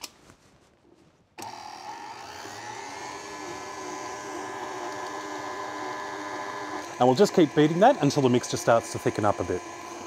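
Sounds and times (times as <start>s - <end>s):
stand mixer motor whining: 1.4s - 10.0s.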